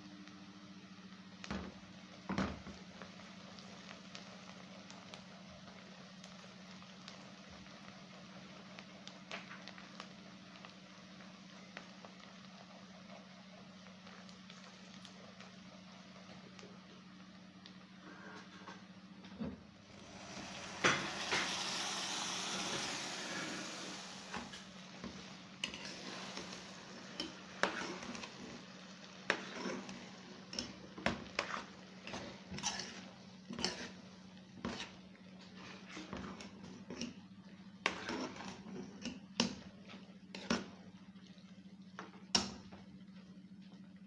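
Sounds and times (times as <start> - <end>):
oil sizzling loudly: 0.0 - 44.0.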